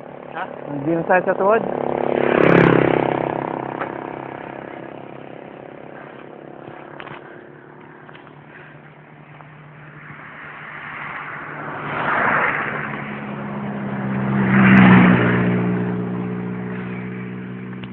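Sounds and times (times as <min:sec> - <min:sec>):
motor vehicles passing: 0:00.0 - 0:17.9
steady engine hum: 0:00.0 - 0:17.9.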